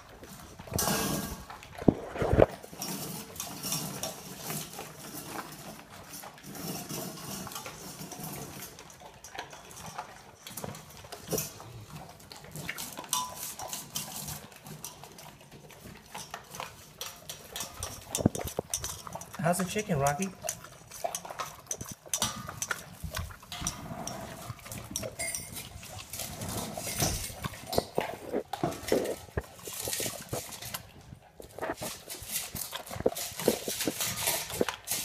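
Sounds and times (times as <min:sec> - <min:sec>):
bowls clattering and knocking: 0:00.0 - 0:35.0
dogs chewing: 0:00.0 - 0:35.0
dogs crunching kibble: 0:00.0 - 0:35.0.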